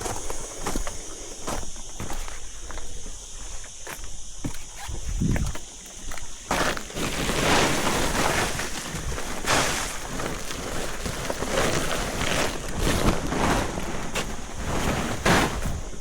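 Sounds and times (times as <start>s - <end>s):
branches and leaves rustling: 0.0s - 16.0s.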